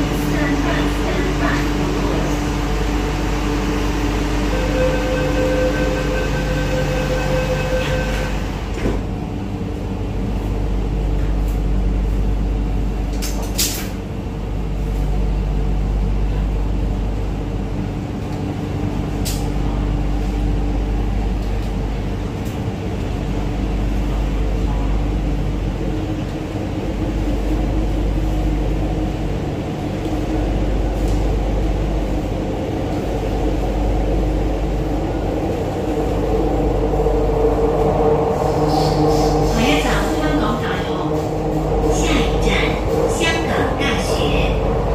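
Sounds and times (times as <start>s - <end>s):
constant hum: 0.0s - 44.9s
train wheels rumbling: 0.0s - 44.9s.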